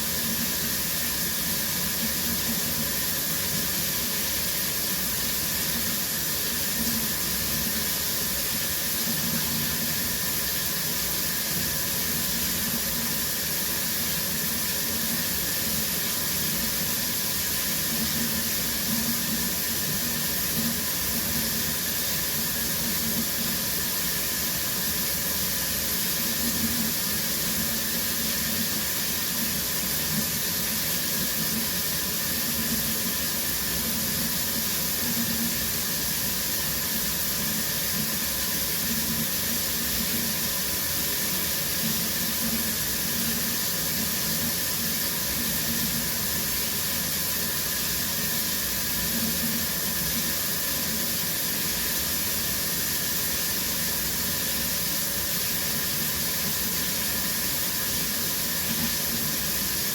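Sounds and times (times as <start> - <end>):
shower water spraying: 0.0 - 59.9.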